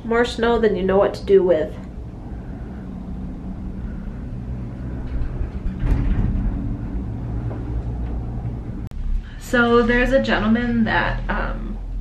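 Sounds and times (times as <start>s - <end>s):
gondola cabin mechanical hum: 0.0s - 12.0s.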